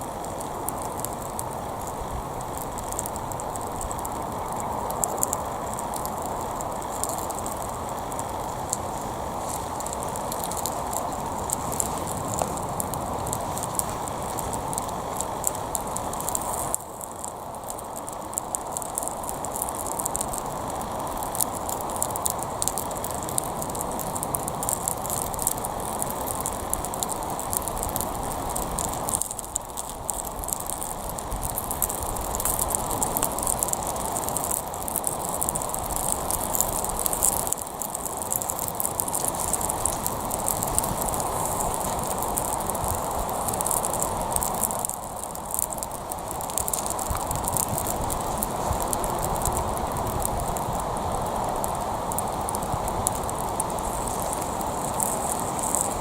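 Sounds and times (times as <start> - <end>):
burning plastic crackling: 0.0 - 56.0
gas torch flame hissing: 0.0 - 56.0.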